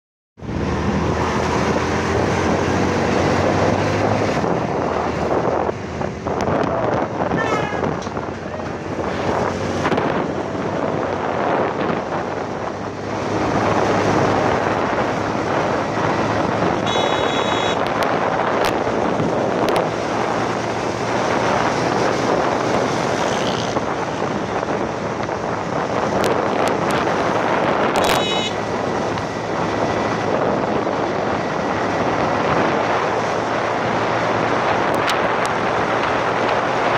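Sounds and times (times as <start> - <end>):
wind buffeting microphone: 0.4 - 16.9, 17.8 - 36.9
vehicle road noise: 0.4 - 36.9.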